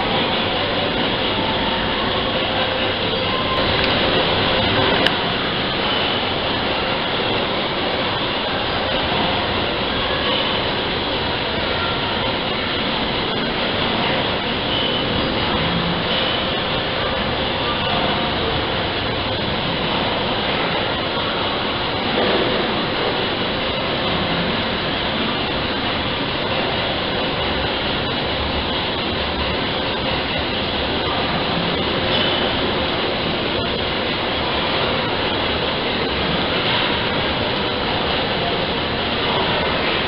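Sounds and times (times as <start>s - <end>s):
beam engine running: 0.0s - 40.0s.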